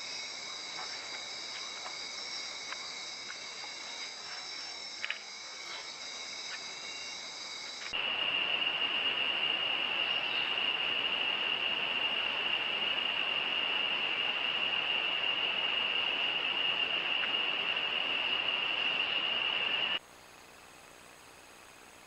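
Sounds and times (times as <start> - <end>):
crickets trilling: 0.0 - 22.0
high-pitched insect drone: 0.0 - 22.0
hiss: 0.0 - 22.0.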